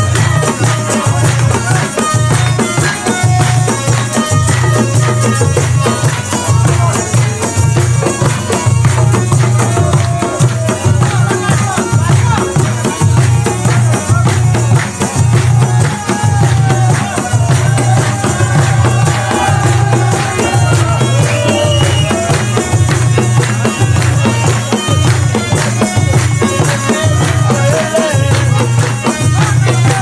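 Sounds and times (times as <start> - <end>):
folk music with drum beat: 0.0 - 30.0.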